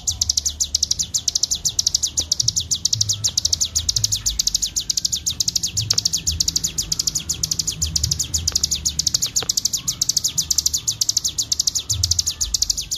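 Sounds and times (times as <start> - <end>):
bird singing a fast trill: 0.0 - 12.9.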